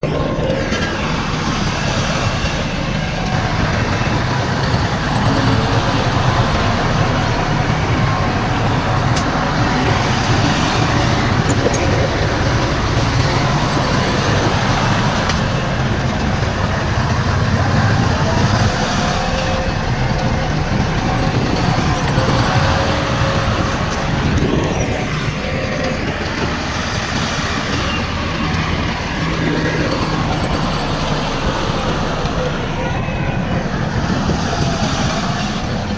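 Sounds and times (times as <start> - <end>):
heavy diesel machinery rumbling: 0.0 - 35.9.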